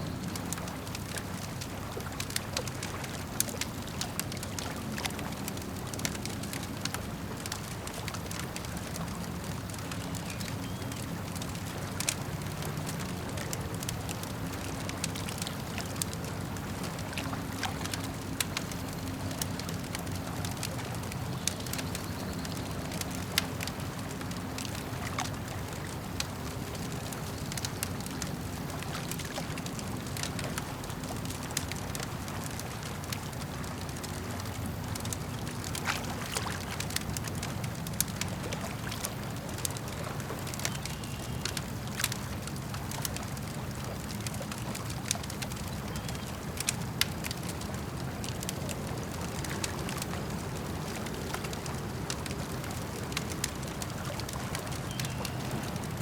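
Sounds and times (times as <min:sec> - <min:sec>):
lake water lapping: 0:00.0 - 0:56.0
campfire crackling and popping: 0:00.1 - 0:56.0.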